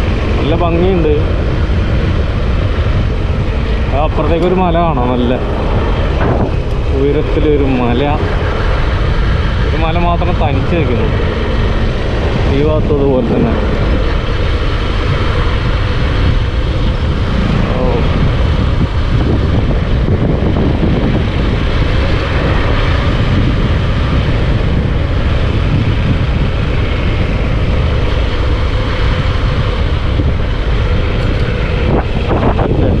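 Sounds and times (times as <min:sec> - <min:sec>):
motorcycle engine running: 0:00.0 - 0:33.0
wind rushing on microphone: 0:00.0 - 0:33.0.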